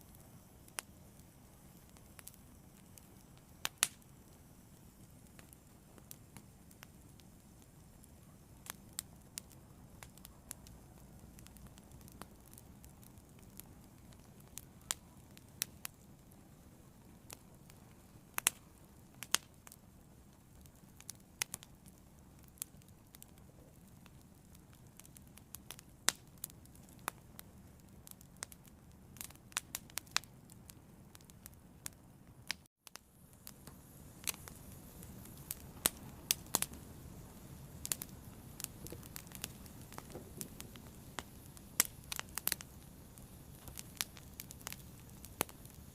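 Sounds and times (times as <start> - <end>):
fire crackling: 0.0 - 45.9.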